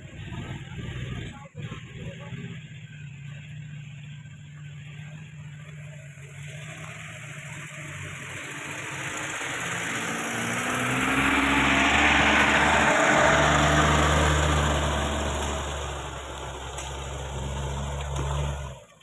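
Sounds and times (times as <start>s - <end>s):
truck engine working through mud: 0.0s - 19.0s.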